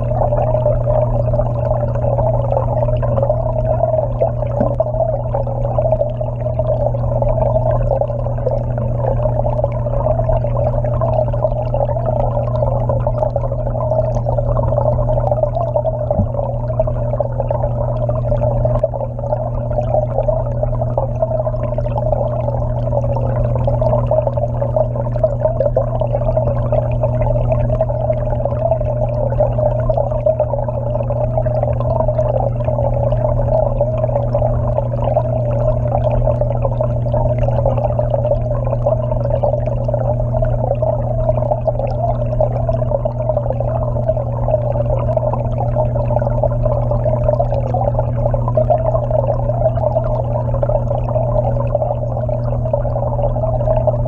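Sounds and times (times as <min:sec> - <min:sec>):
pump humming: 0:00.0 - 0:54.0.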